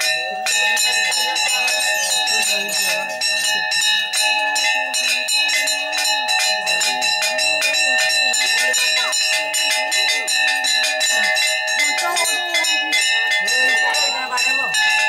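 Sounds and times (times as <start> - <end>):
temple bells ringing fast: 0.0 - 15.0
voices: 0.0 - 15.0.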